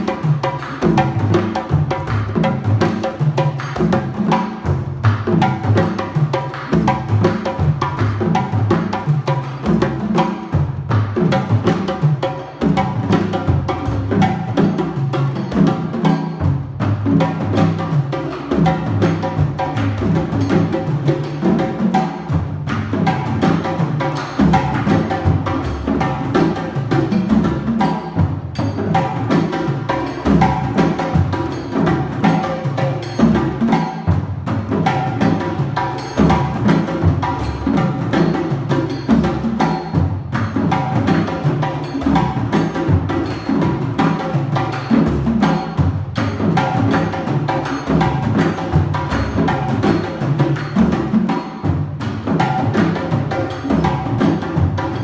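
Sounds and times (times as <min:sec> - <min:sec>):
hand drum rhythm: 0:00.0 - 0:55.0.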